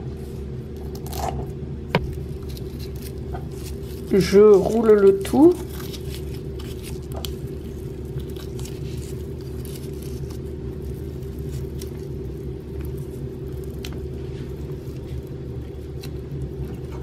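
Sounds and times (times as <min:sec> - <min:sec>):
hands rolling fish fillet: 0:02.0 - 0:17.0.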